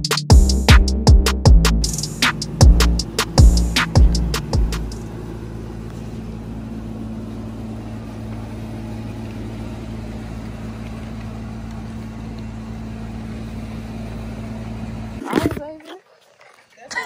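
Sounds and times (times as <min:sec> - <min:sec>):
steady machine hum: 0:00.3 - 0:15.2.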